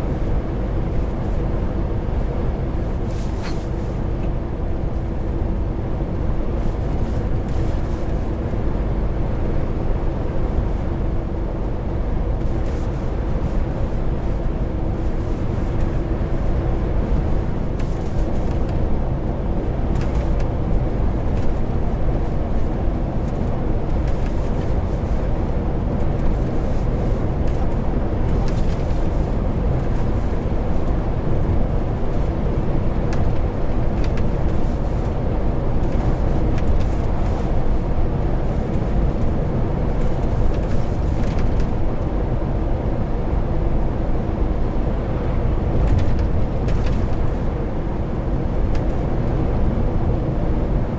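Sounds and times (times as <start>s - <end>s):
truck engine and road rumble: 0.0s - 50.9s.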